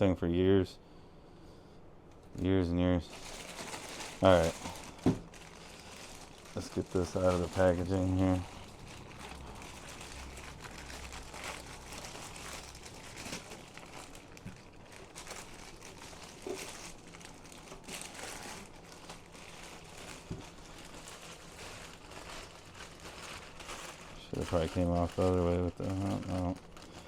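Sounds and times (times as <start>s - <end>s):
packaging crinkling and rustling: 3.0s - 27.0s.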